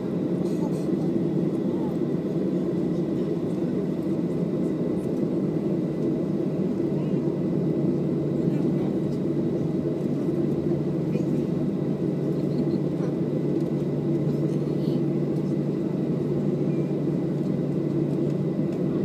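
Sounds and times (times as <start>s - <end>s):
aircraft engines idling: 0.0s - 19.0s.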